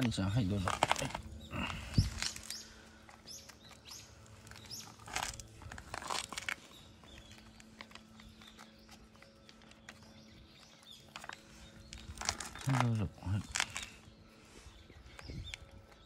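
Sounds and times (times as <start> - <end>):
cats crunching food: 0.0 - 16.0.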